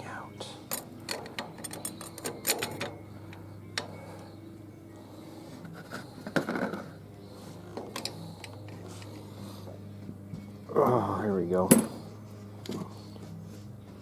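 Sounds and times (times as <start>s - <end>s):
steady low hum: 0.0s - 14.0s
clutch plates clicking and clinking: 0.5s - 10.8s, 11.6s - 14.0s.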